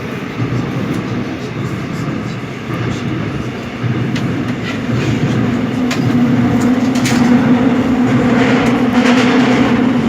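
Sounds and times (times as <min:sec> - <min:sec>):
subway train droning: 0:00.0 - 0:10.0.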